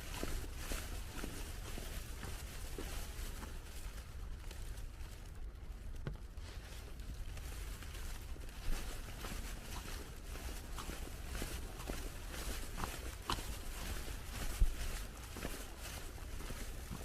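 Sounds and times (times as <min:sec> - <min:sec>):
footsteps crunching in snow: 0:00.0 - 0:17.0
steady low rumble: 0:00.0 - 0:17.0.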